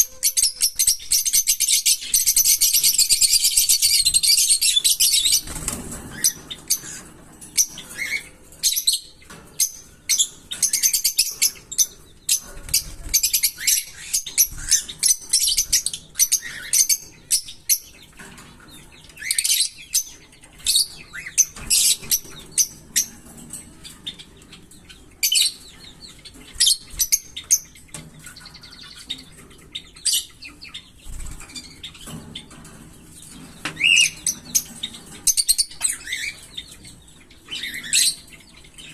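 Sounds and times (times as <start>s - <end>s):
parrots chirping and squeaking: 0.0s - 38.9s.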